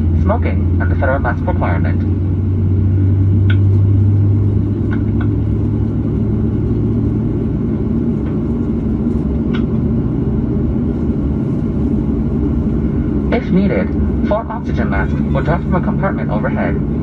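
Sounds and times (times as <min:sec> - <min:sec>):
low aircraft cabin rumble: 0:00.0 - 0:17.0
strong low hum: 0:00.0 - 0:17.0.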